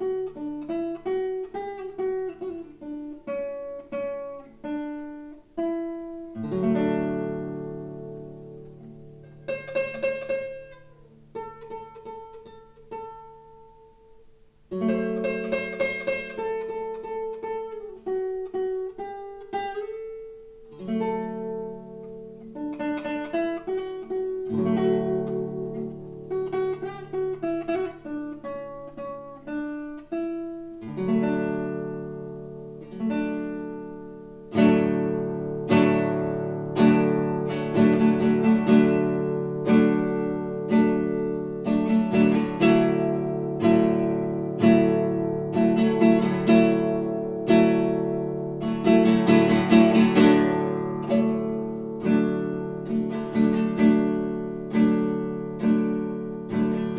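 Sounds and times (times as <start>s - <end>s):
classical guitar playing: 0.0s - 56.9s.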